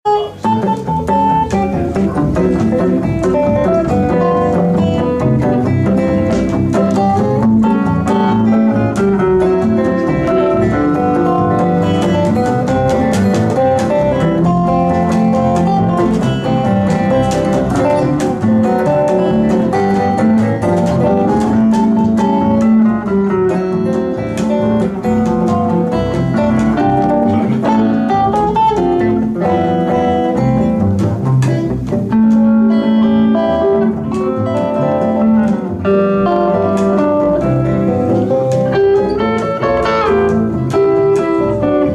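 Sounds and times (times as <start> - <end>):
fingerpicked acoustic guitars: 0.0 - 41.9.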